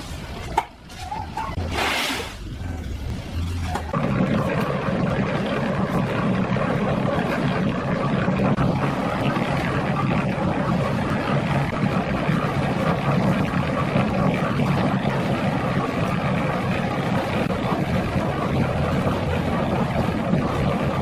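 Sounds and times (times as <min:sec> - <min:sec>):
engine droning steadily: 0:02.4 - 0:21.0.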